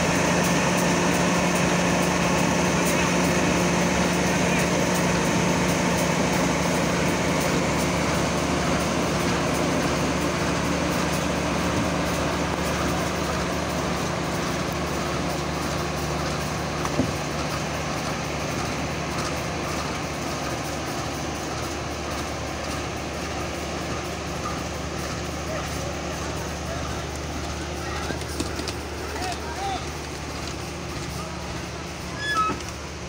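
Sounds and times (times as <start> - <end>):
diesel train engine droning: 0.0 - 33.0.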